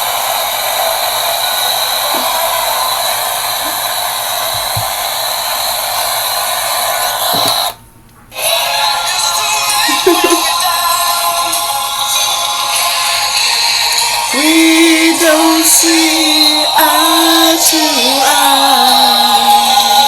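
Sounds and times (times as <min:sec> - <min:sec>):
loud steady hissing: 0:00.0 - 0:20.0.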